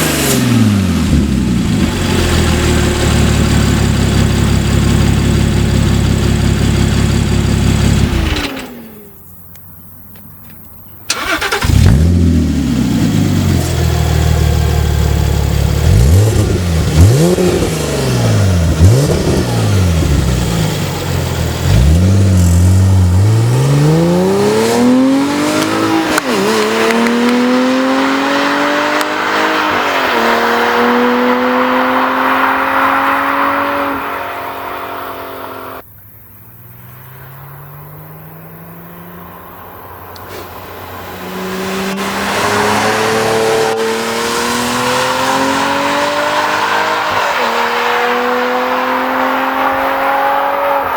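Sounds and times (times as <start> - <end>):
car engine revving: 0.0 - 9.0, 11.1 - 35.8, 36.5 - 50.9
car accelerating with upshifts: 0.0 - 9.1, 11.1 - 35.8, 36.5 - 50.9.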